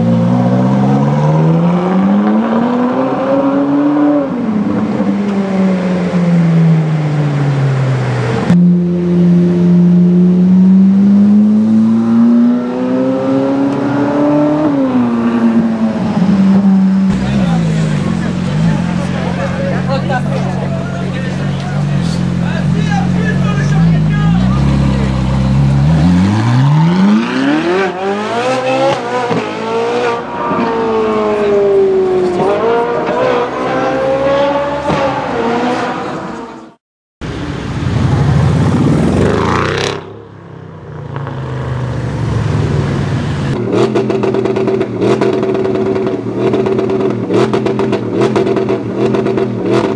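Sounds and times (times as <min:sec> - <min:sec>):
sports car engine revving: 0:00.0 - 0:07.1, 0:08.3 - 0:36.8, 0:42.3 - 0:49.9
car engine revving: 0:00.0 - 0:49.9.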